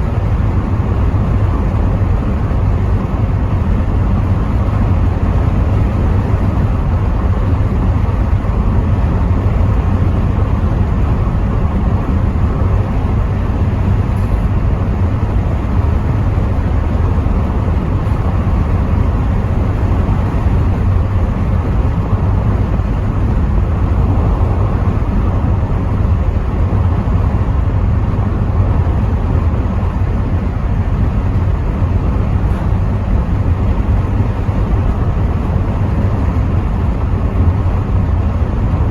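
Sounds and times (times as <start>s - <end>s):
car engine and road rumble: 0.0s - 38.9s
wind through open windows: 0.0s - 38.9s.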